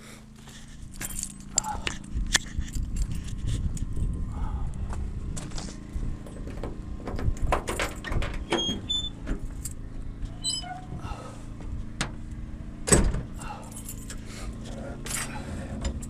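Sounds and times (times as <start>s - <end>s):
diesel engine idling: 0.0s - 2.4s, 3.8s - 16.0s.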